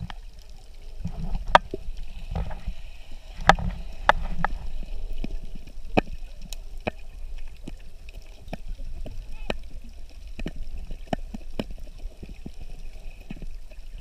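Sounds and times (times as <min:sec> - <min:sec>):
underwater rumble of moving water: 0:00.0 - 0:14.0
sharp clicks underwater: 0:01.0 - 0:14.0.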